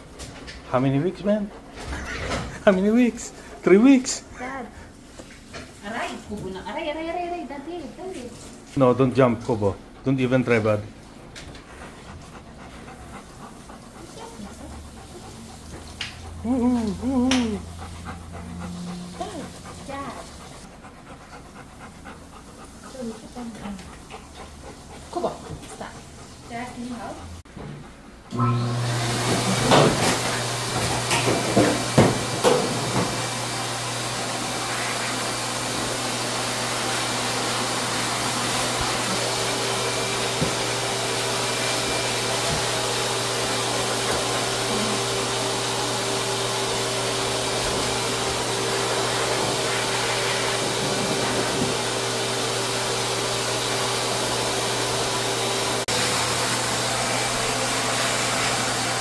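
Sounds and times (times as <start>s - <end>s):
dog-wash blower running: 0.0s - 59.0s.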